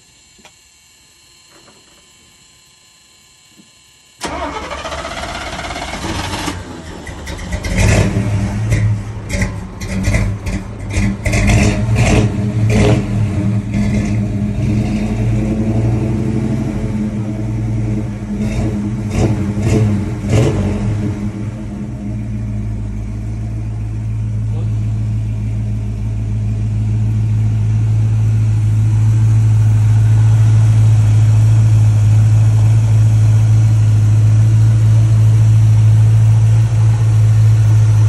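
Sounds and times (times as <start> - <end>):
pickup engine running: 4.2 - 38.0.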